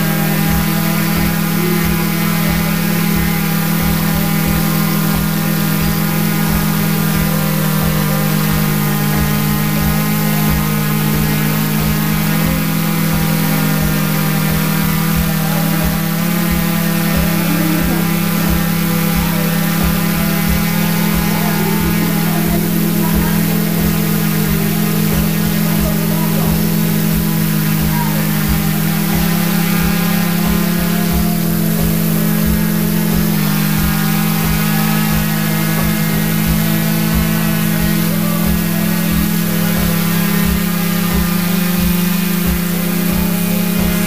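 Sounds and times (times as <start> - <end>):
drone motors humming: 0.0 - 44.0.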